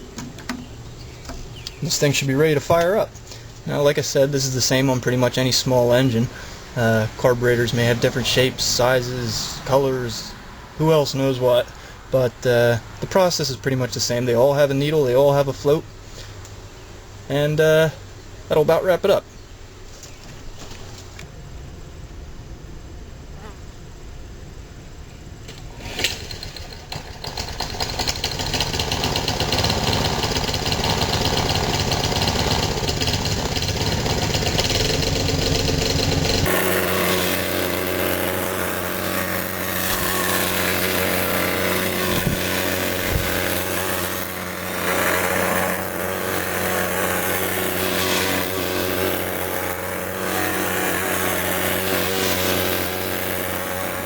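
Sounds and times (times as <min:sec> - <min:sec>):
lawn mower engine starting and running: 0:00.0 - 0:19.2, 0:25.4 - 0:54.0.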